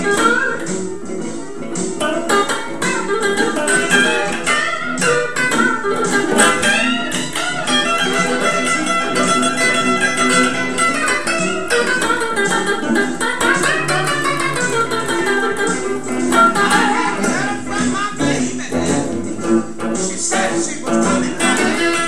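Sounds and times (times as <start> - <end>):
blues band backing track: 0.0 - 22.0
electric guitar blues lines: 0.0 - 22.0.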